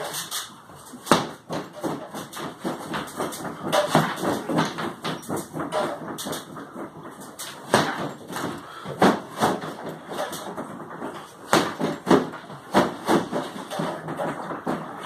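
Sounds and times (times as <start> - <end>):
punches and kicks thudding on bag: 1.0 - 6.4, 7.0 - 14.9.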